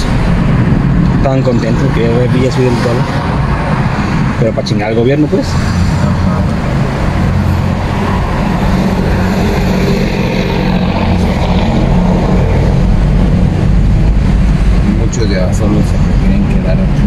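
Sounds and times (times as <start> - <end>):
car engine hum: 0.0 - 17.0
road and tyre noise: 0.0 - 17.0.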